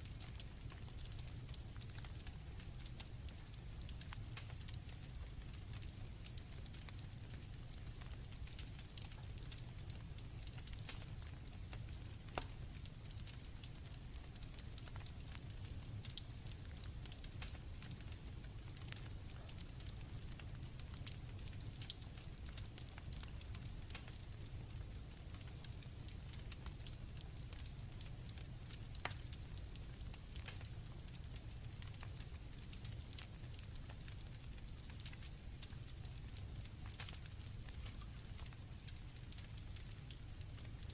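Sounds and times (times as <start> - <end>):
campfire crackling and popping: 0.0 - 40.9
low rumble of fire: 0.0 - 40.9
crickets chirping: 0.1 - 40.9.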